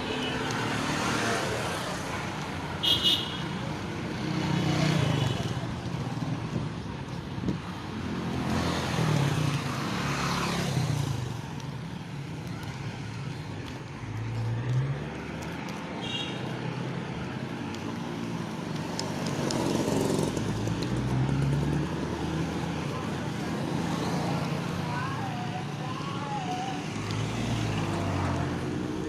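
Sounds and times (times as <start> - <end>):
vehicles passing by: 0.0 - 29.0.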